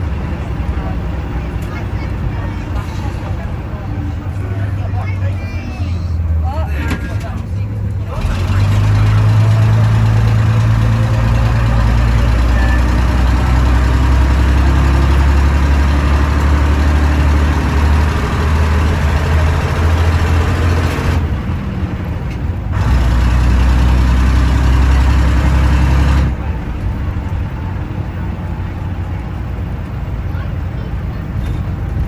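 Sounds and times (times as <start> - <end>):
bus diesel engine running: 0.0 - 32.0.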